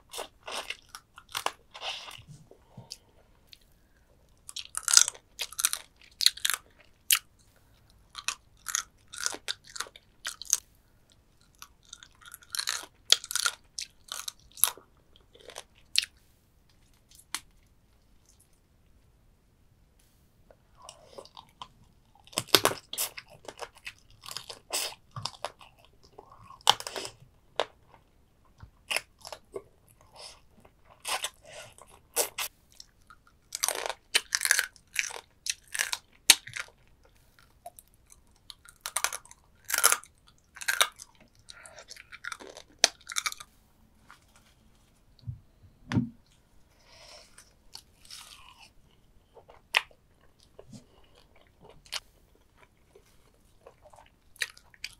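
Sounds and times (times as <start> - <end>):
crunching and chewing: 0.0 - 18.6, 20.8 - 44.6, 47.2 - 54.9.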